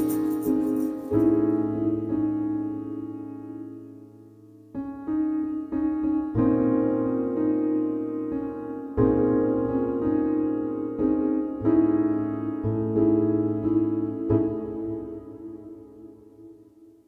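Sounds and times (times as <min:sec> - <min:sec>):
keyboard chords: 0:00.0 - 0:17.0.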